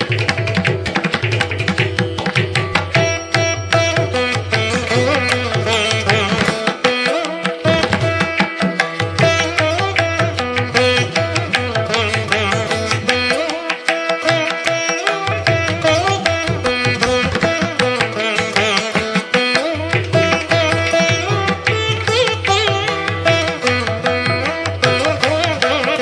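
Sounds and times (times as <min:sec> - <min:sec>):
hand drum percussion: 0:00.0 - 0:26.0
plucked string melody: 0:00.0 - 0:26.0.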